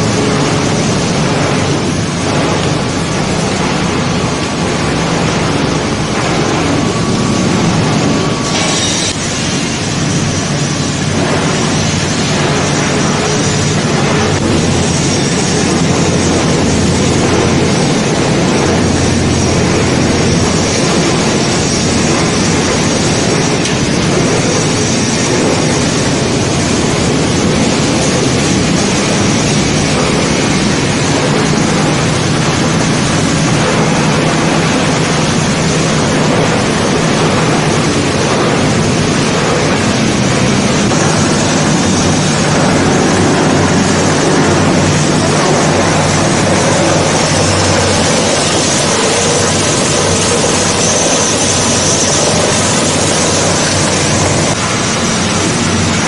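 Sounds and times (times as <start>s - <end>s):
motors and water churning plastic: 0.0s - 56.0s
steady low hum: 0.0s - 56.0s.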